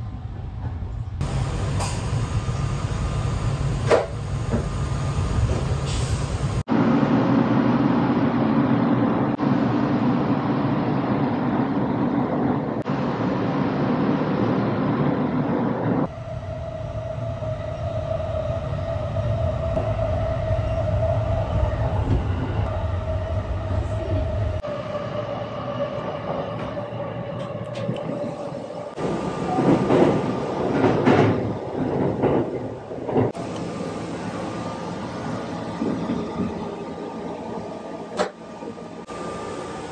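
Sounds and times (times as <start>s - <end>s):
train running rumble with hum: 0.0s - 39.9s.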